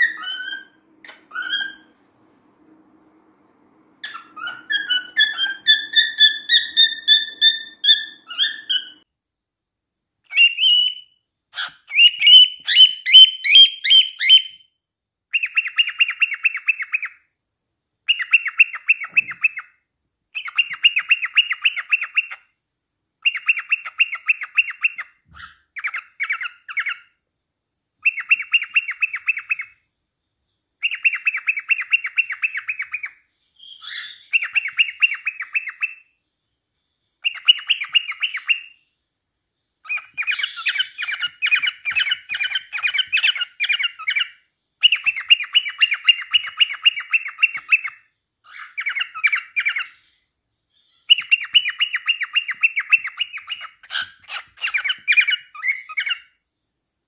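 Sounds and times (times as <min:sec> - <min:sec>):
cockatiel chirping: 0:00.0 - 0:01.9, 0:04.0 - 0:09.0, 0:10.3 - 0:14.7, 0:15.3 - 0:17.2, 0:18.0 - 0:22.5, 0:23.2 - 0:27.2, 0:28.0 - 0:29.8, 0:30.8 - 0:36.2, 0:37.2 - 0:38.8, 0:39.8 - 0:56.4.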